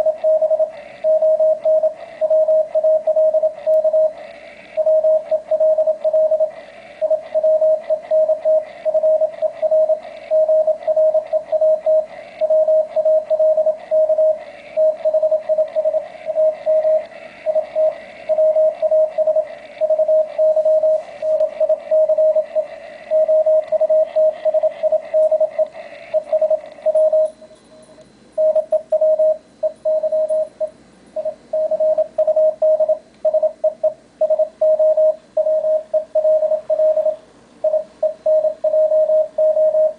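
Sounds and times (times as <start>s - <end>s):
morse code tone: 0.0s - 4.2s, 4.8s - 27.5s, 28.4s - 39.9s
receiver hiss: 0.0s - 39.9s.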